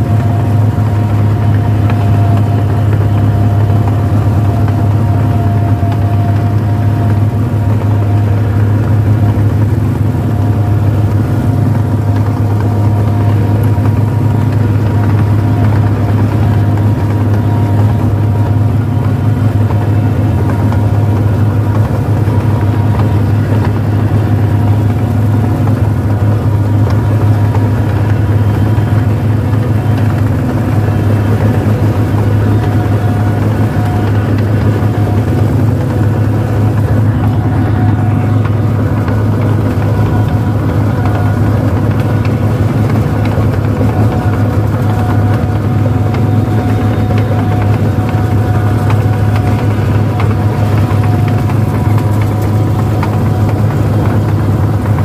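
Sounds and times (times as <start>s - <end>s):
constant machine whine: 0.0s - 55.0s
harvester diesel engine droning: 0.0s - 55.0s.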